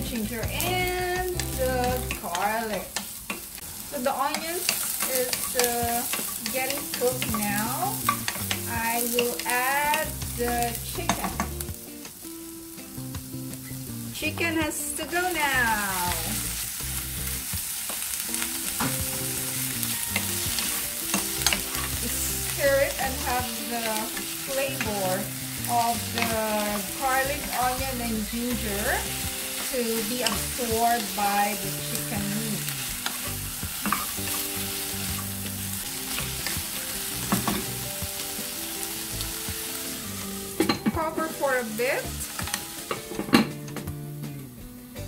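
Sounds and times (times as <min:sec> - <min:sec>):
chicken sizzling in oil: 0:00.0 - 0:43.3.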